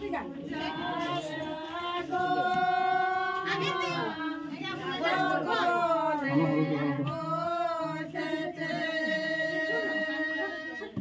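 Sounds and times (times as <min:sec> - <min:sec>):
voices singing unaccompanied: 0:00.0 - 0:11.0.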